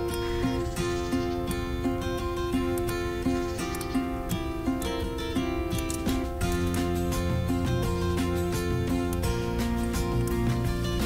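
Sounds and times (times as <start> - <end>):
lower steady music part: 0.0 - 11.0
plucked acoustic guitar: 0.0 - 11.0.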